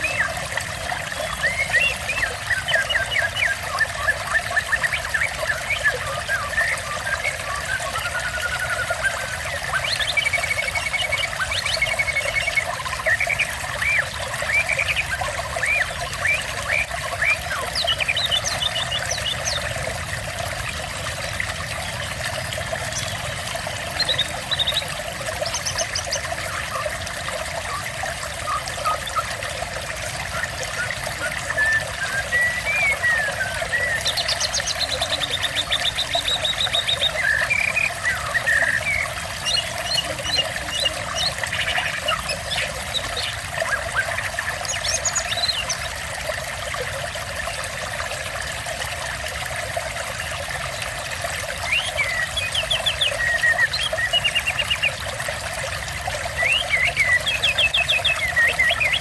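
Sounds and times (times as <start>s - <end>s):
small birds chirping: 0.0s - 19.9s, 20.9s - 45.9s, 51.6s - 55.0s, 56.2s - 59.0s
water trickling: 0.0s - 59.0s.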